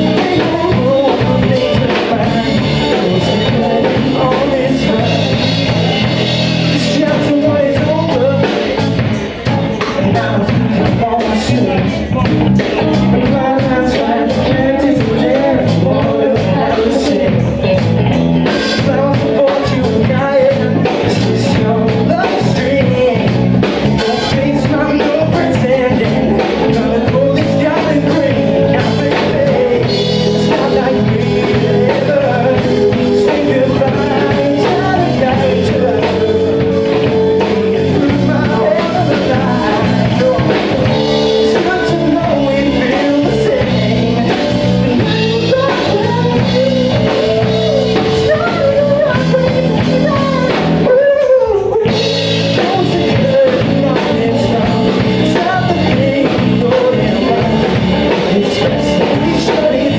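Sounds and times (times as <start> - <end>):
live rock band playing: 0.0 - 59.9
person singing: 0.0 - 59.9.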